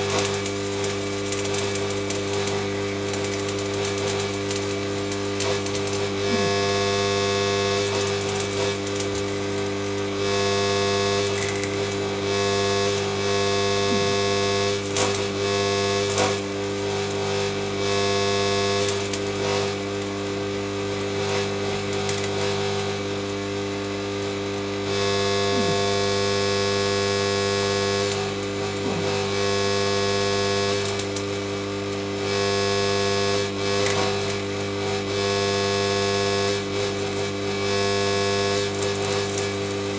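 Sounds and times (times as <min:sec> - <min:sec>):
sharp welding pops: 0:00.0 - 0:35.2, 0:36.4 - 0:39.9
steady electrical hum: 0:00.0 - 0:39.9
welding arc hissing and crackling: 0:00.0 - 0:39.9.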